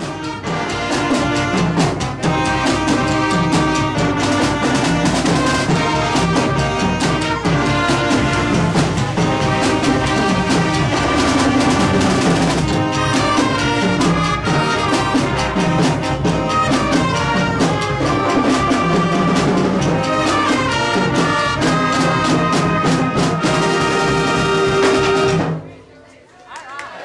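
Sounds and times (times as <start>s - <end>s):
instrumental music with steady beat: 0.0s - 25.5s.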